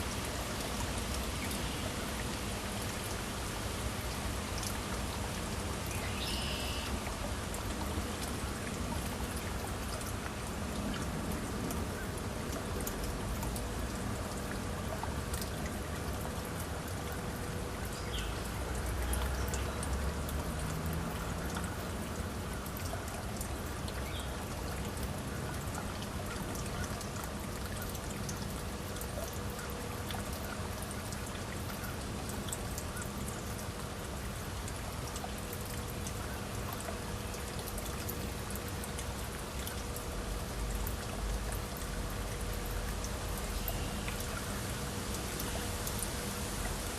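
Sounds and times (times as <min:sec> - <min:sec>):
stream trickling over rocks: 0:00.0 - 0:46.9.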